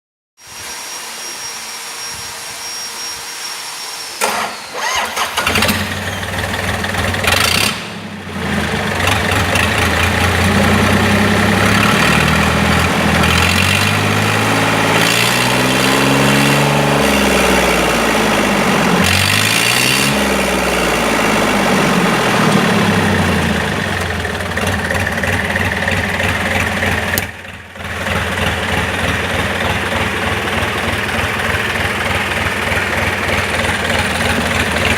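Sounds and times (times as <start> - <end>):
diesel engine starting and running: 0.4 - 34.9
engine revving: 4.2 - 34.9.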